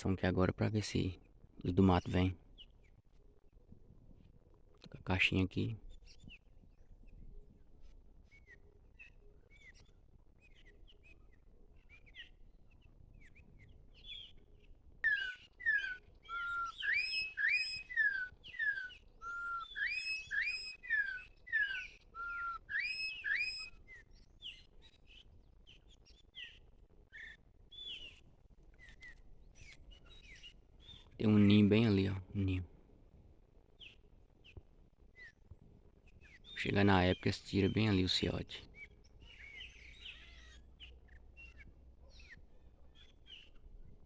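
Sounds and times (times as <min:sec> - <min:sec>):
bird song from a small speaker: 0:00.0 - 0:32.7, 0:33.6 - 0:44.0
faint chirps of birds: 0:00.0 - 0:44.0.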